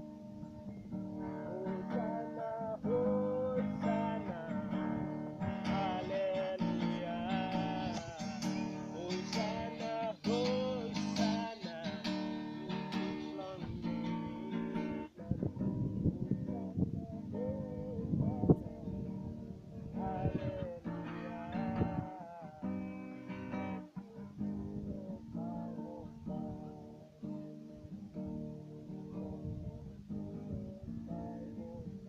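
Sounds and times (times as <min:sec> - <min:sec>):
strummed acoustic guitar music: 0:00.0 - 0:32.0.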